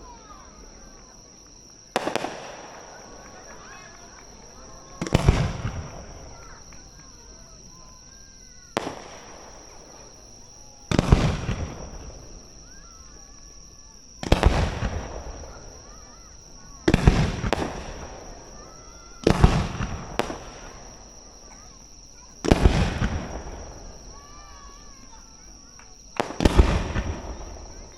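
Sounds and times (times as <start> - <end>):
fireworks bursting with echo: 0.0 - 27.9.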